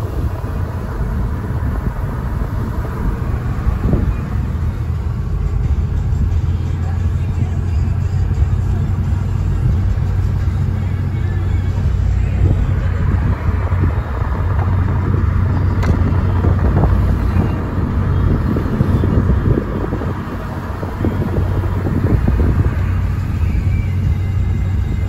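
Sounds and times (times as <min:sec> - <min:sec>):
car road noise rumble: 0:00.0 - 0:25.0.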